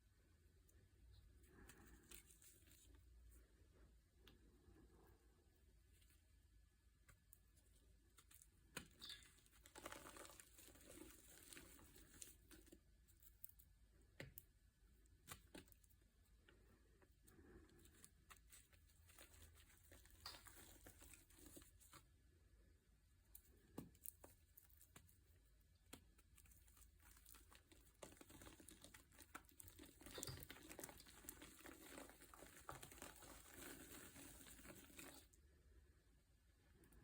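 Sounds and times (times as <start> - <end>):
crinkling and crackling: 1.1 - 3.6, 7.0 - 22.2, 23.2 - 35.5.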